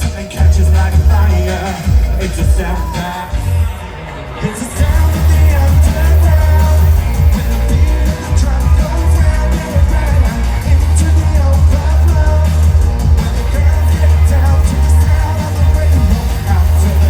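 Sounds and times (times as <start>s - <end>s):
heavy bass beat: 0.0s - 17.0s
person singing: 0.0s - 17.0s
pop dance music over loudspeakers: 0.0s - 17.0s.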